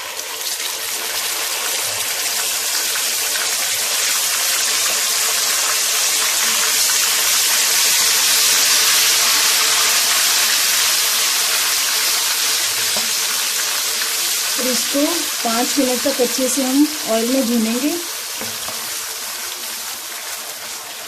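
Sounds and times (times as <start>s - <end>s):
paste sizzling in hot oil: 0.0s - 21.0s.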